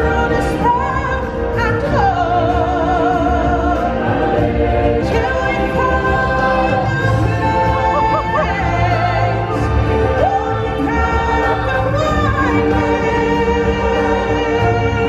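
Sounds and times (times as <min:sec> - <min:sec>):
choir singing: 0:00.0 - 0:15.0
steady musical accompaniment: 0:00.0 - 0:15.0.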